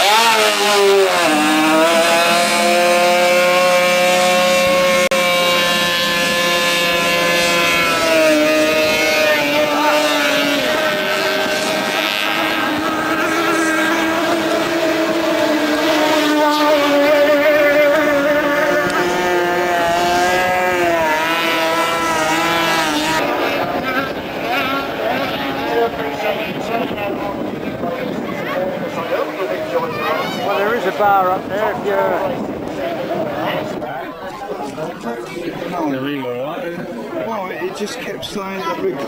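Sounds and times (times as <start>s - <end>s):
racing boat engine high revs: 0.0s - 36.0s.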